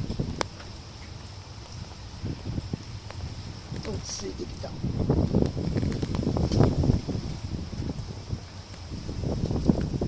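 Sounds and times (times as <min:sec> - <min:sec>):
storm wind buffeting microphone: 0:00.0 - 0:10.0.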